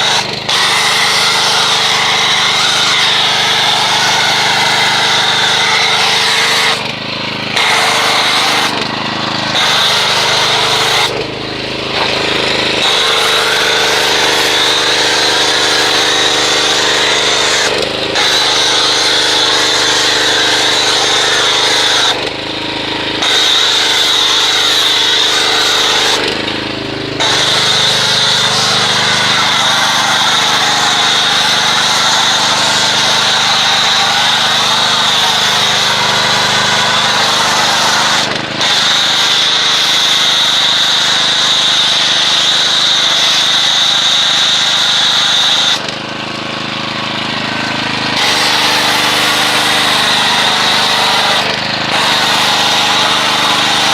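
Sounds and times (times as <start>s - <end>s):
pressure washer engine running: 0.0s - 53.9s
water spraying: 0.0s - 53.9s.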